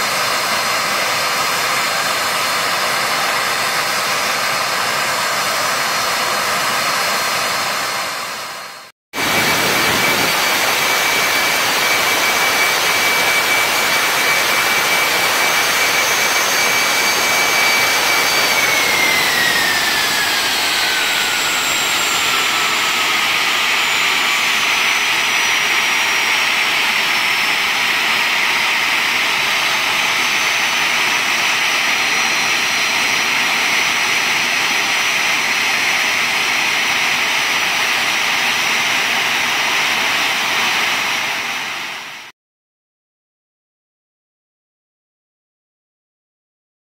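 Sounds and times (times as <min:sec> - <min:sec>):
jet engines running: 0:00.0 - 0:42.3.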